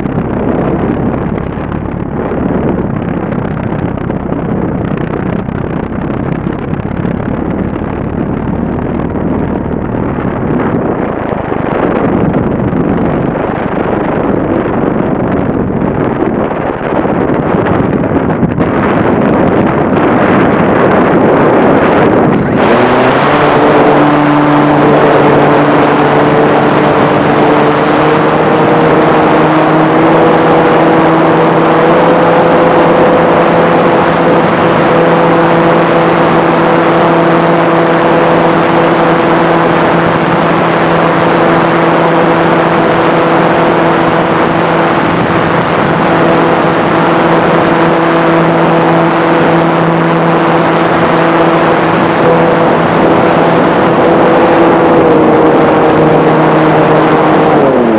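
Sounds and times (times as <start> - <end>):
air rushing over microphone: 0.0 - 57.9
model aeroplane motor drone: 0.0 - 57.9.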